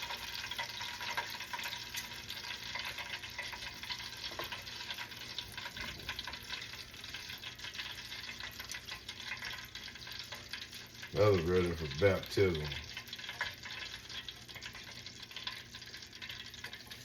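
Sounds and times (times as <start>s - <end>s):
meat deep-frying sizzle: 0.0s - 17.0s.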